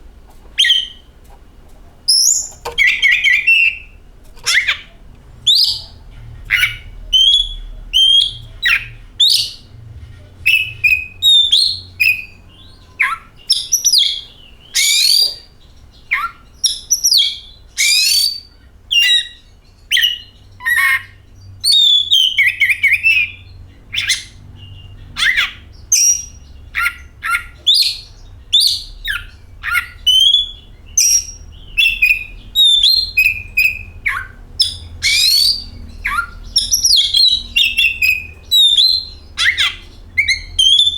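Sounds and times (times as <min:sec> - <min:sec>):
faint low hum: 0:00.0 - 0:40.9
songbird whistling and chirping: 0:00.6 - 0:01.1, 0:02.1 - 0:09.7, 0:10.4 - 0:40.9.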